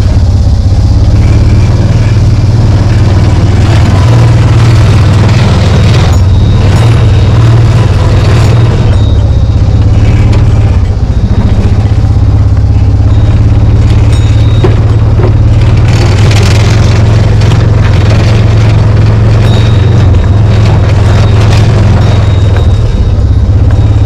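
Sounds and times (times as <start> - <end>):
utility vehicle engine running: 0.0 - 24.0.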